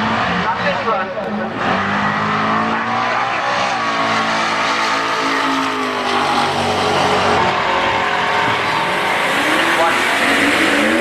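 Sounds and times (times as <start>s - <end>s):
car engines revving loudly: 0.0s - 11.0s.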